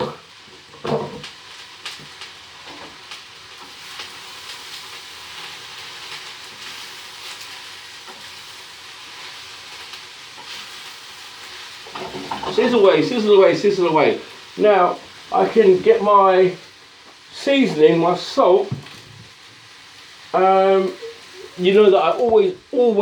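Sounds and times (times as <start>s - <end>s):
vegetables sizzling in frying pan: 0.0s - 23.0s
light crackles: 0.2s - 23.0s.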